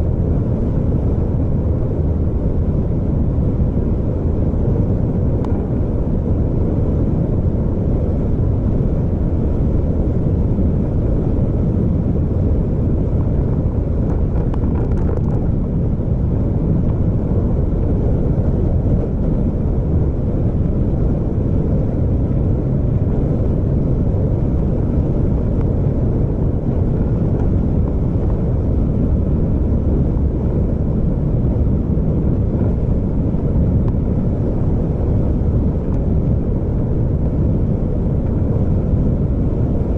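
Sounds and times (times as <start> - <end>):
vehicle engine and road rumble: 0.0 - 39.9
wind noise: 0.0 - 39.9.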